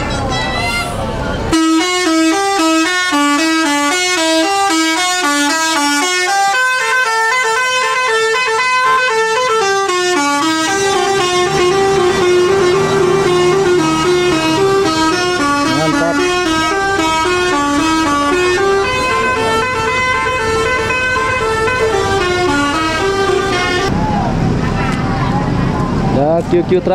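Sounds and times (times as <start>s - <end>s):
musical bus horn tune: 0.0s - 23.9s.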